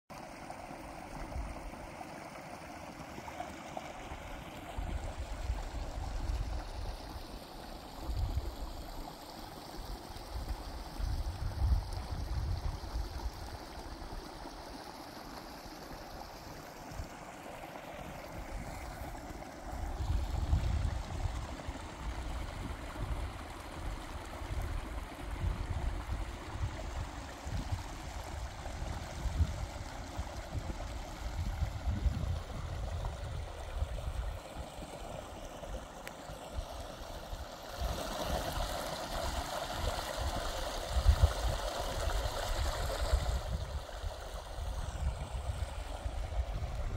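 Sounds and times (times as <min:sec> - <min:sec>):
stream trickling and gurgling: 0:00.1 - 0:46.9.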